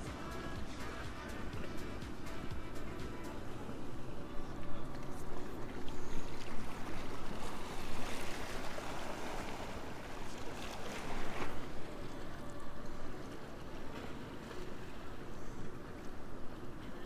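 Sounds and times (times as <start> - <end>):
water lapping against boat hull: 0.6 - 17.0.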